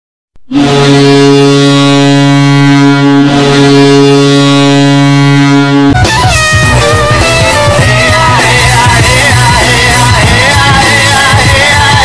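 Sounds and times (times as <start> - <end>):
deep goal horn blast: 0.4 - 12.0.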